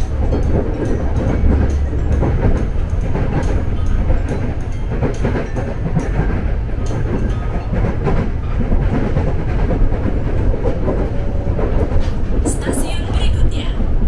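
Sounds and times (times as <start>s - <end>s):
electric train rumbling: 0.0s - 14.0s
wheels clattering over rails: 0.0s - 14.0s.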